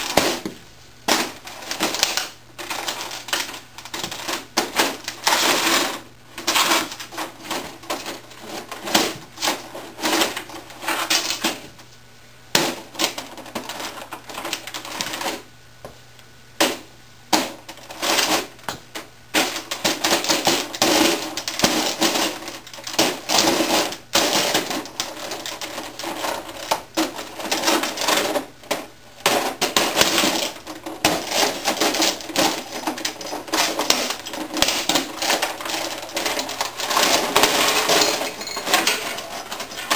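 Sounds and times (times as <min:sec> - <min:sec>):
plastic keyboard cracking and rattling: 0:01.1 - 0:11.6, 0:12.6 - 0:15.4, 0:17.4 - 0:39.9.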